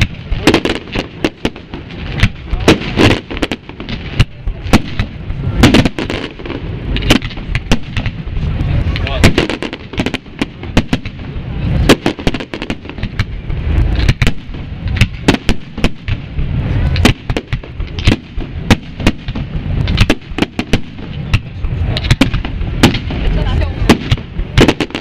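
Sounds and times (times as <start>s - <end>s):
continuous low rumble: 0.0s - 25.0s
fireworks shells bursting: 0.0s - 25.0s.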